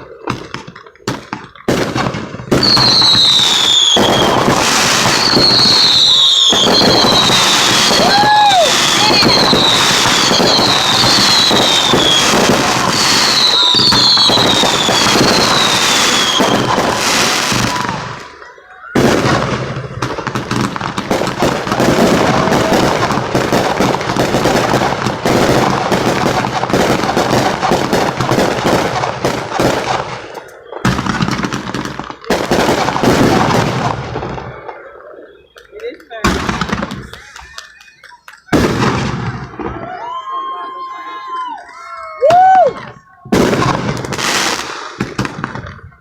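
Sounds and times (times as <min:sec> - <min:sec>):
fireworks falling whistles: 0:00.0 - 0:41.6
fireworks cracking: 0:00.0 - 0:46.0.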